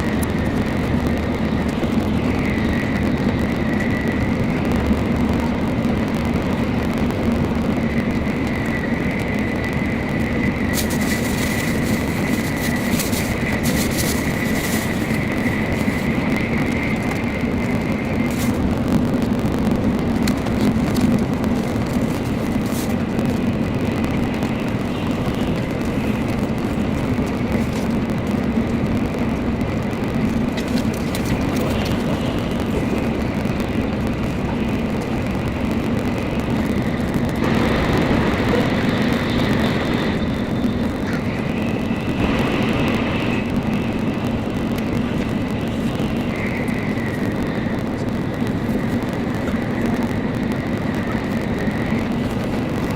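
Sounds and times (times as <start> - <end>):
high whine shifting pitch: 0.0 - 52.9
train rumbling rush inside car: 0.0 - 52.9.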